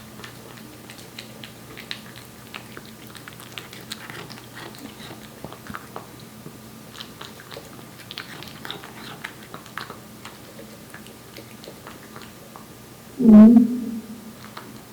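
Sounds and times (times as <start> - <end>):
cat chewing wet food: 0.0 - 13.0.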